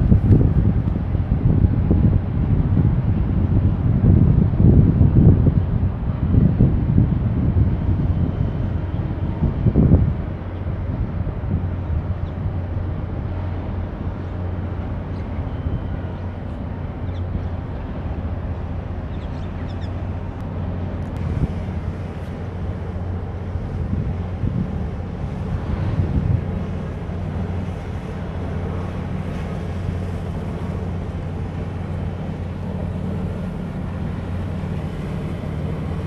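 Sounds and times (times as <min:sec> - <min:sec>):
ship engine drone: 0:00.0 - 0:36.0
wind buffeting microphone: 0:00.0 - 0:36.0.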